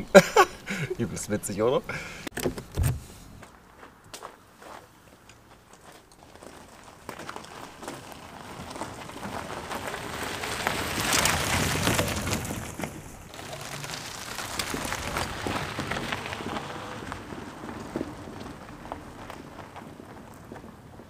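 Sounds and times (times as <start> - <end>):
tyres crunching over gravel: 2.8 - 21.0.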